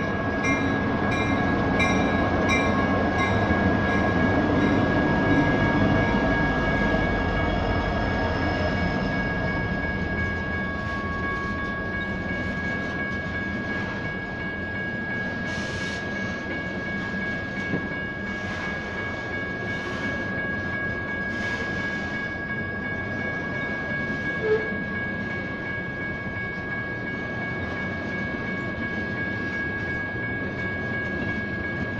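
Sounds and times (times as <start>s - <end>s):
crossing bells ringing: 0.0s - 31.9s
freight train wheels rumbling: 0.0s - 31.9s.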